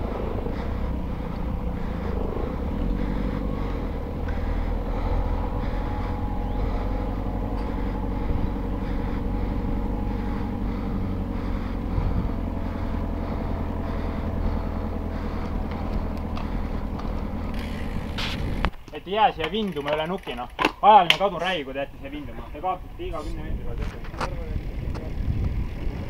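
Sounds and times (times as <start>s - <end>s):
wind rumble on microphone: 0.0s - 18.8s, 21.9s - 26.0s
bicycle tyre road noise: 0.0s - 26.0s.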